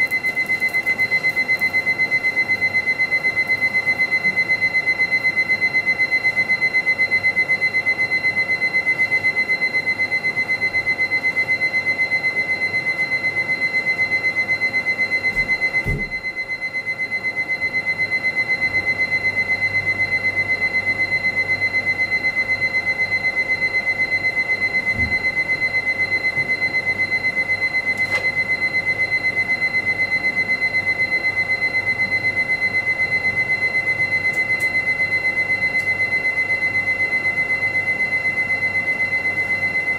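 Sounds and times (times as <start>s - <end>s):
rapid pulsing electronic beeps: 0.0s - 39.9s.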